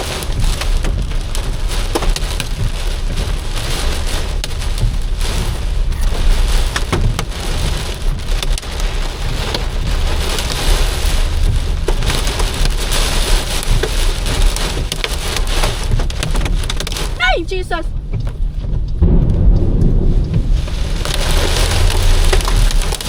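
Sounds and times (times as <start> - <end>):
car rumbling on road: 0.0 - 23.0
heavy rain pelting a car: 0.0 - 23.0.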